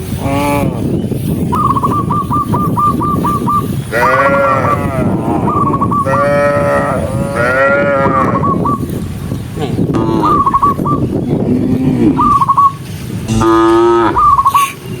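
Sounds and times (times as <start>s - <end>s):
background hubbub: 0.0s - 13.4s
cattle calling: 1.8s - 8.7s, 9.6s - 14.8s.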